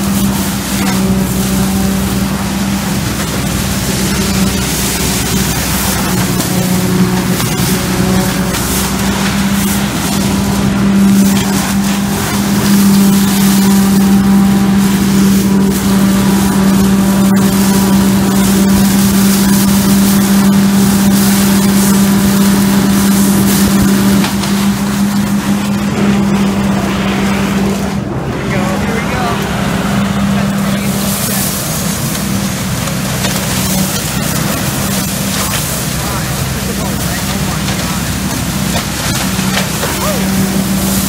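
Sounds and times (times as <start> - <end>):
constant rushing noise: 0.0 - 41.0
leaf vacuum engine humming: 0.0 - 41.0.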